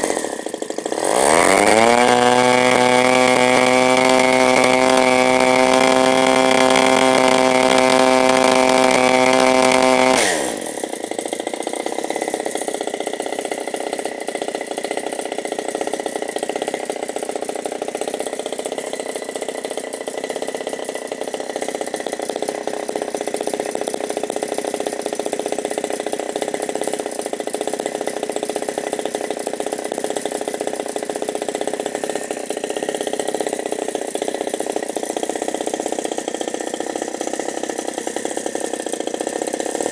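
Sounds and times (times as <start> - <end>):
model aircraft engine running: 0.0 - 39.9.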